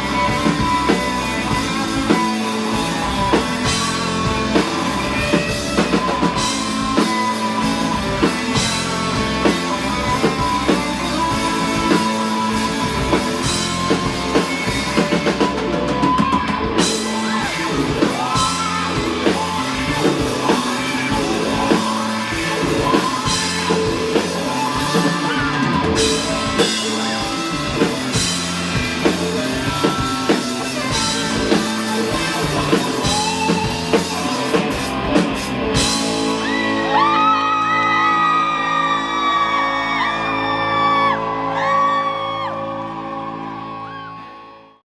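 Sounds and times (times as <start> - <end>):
drum kit: 0.0 - 42.9
electric guitar: 0.0 - 44.8
person singing: 0.0 - 44.8.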